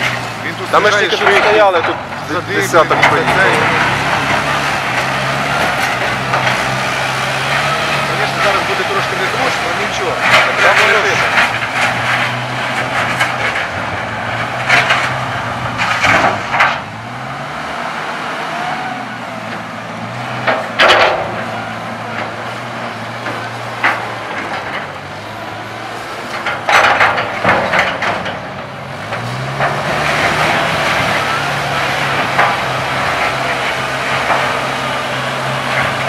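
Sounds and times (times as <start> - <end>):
loud rattling and knocking: 0.0 - 17.0, 19.4 - 36.0
truck engine running: 0.0 - 36.0.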